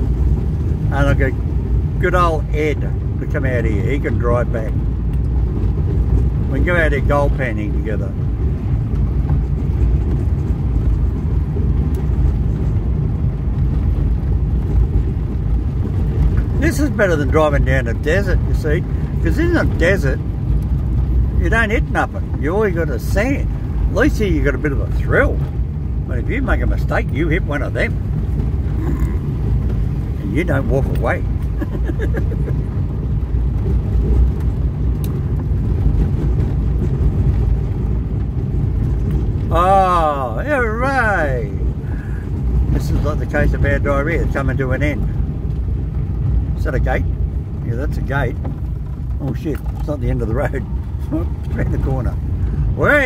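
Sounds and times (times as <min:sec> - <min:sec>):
car driving on dirt track: 0:00.0 - 0:53.0
vehicle engine and tyres rumbling: 0:00.0 - 0:53.0.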